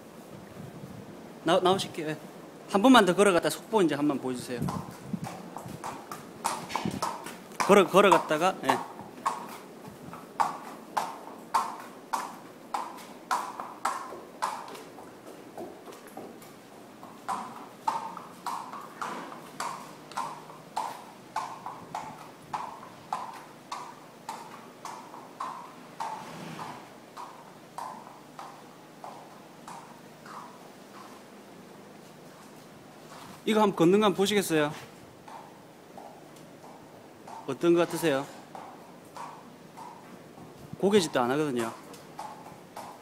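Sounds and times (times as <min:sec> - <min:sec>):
horse hooves on concrete: 0:00.0 - 0:43.0.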